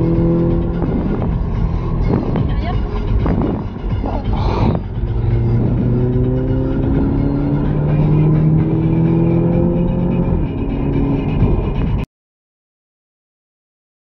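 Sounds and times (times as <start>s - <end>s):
car engine accelerating: 0.0s - 12.1s
road and wind noise: 0.0s - 12.1s.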